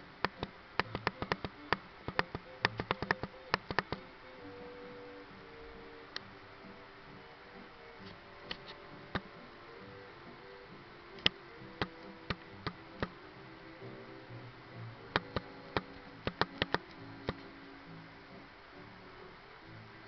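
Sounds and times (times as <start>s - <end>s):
faint music: 0.0s - 20.0s.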